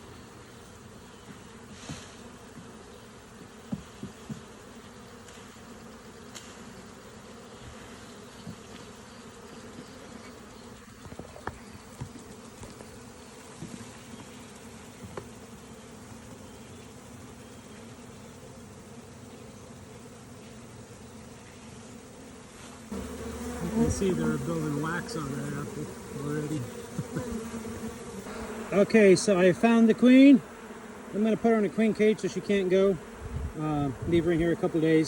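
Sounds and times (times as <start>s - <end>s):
bee swarm buzzing: 0.0s - 35.0s.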